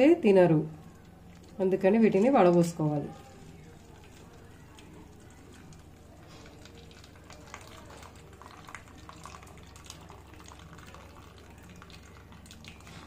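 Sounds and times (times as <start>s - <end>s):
faint splashing and drips: 0.7s - 13.0s
milk trickling into bowl: 0.7s - 13.0s.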